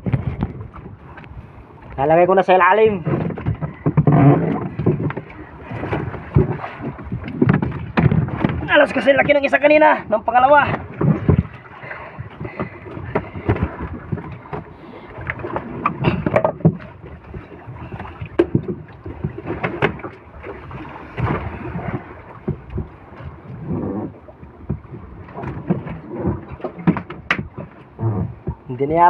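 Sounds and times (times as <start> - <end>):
knocks and thumps in boat hull: 0.0 - 1.2, 2.8 - 29.0
wind and water rushing: 0.0 - 29.0.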